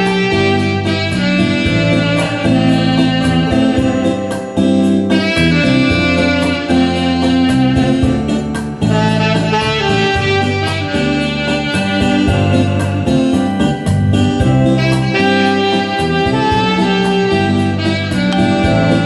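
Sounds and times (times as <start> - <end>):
pop backing track: 0.0 - 19.0
trumpet playing melody: 0.0 - 19.0
steady drum beat: 1.1 - 19.0.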